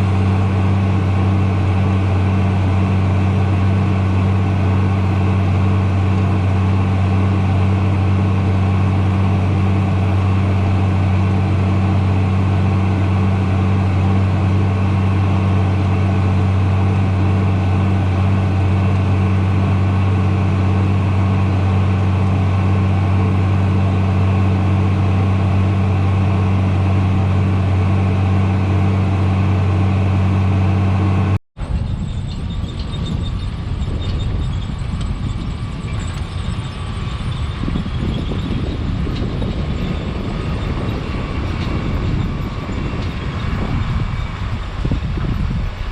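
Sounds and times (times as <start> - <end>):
rough engine running: 0.0 - 45.9
tractor engine droning: 0.0 - 45.9.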